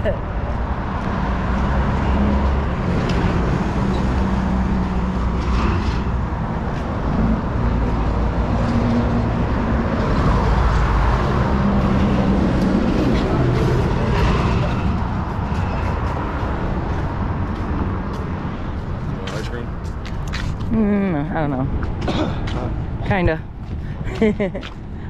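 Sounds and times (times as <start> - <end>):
traffic noise: 0.0 - 25.0
vehicle engine rumbling: 0.0 - 25.0.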